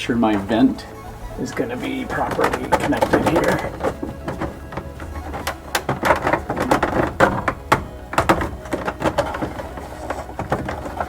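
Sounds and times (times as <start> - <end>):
plastic dashboard parts knocking: 0.3 - 11.0.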